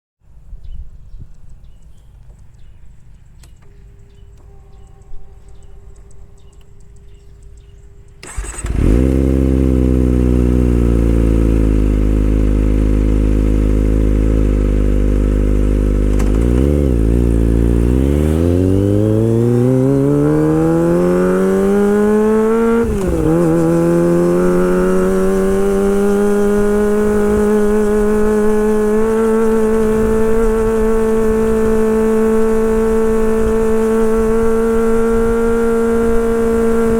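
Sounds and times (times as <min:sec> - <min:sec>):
motorcycle engine starting and idling: 0:01.4 - 0:36.9
motorcycle engine revving: 0:06.4 - 0:36.9.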